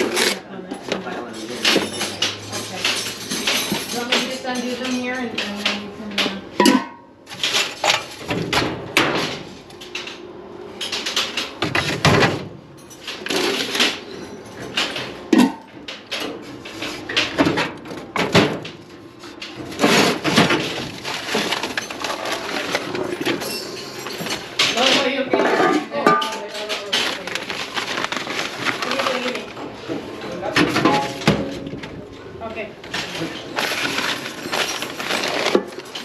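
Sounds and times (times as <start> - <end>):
tools clattering: 1.2 - 8.5, 9.2 - 29.3, 32.9 - 36.0.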